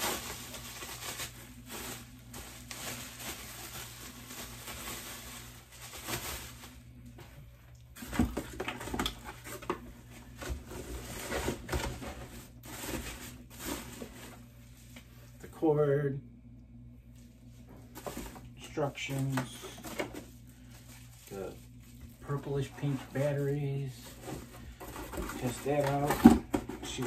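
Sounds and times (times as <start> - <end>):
bubble wrap crinkling: 0.0 - 7.2, 7.9 - 15.3, 17.2 - 27.0.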